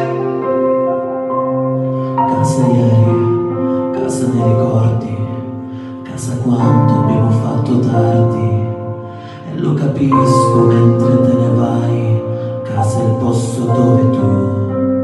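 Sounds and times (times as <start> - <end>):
man singing into microphone: 0.0 - 15.0
musical accompaniment: 0.0 - 15.0.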